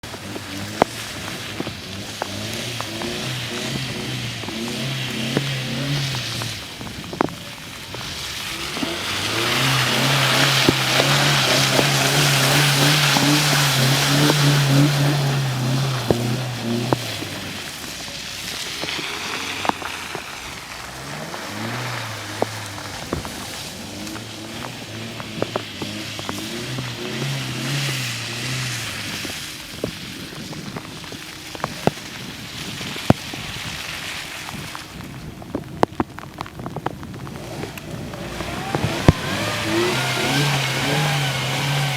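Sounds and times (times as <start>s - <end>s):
car engine under load: 0.0s - 41.9s
tyres churning mud: 0.0s - 41.9s.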